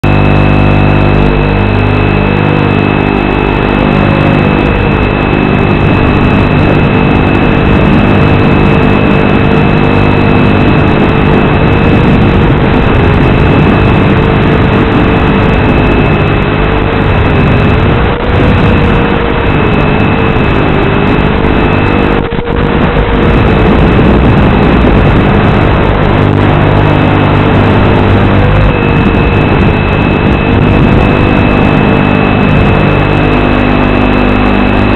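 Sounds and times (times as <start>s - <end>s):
steady high whine: 0.0s - 34.9s
quadcopter motors buzzing: 0.1s - 34.9s.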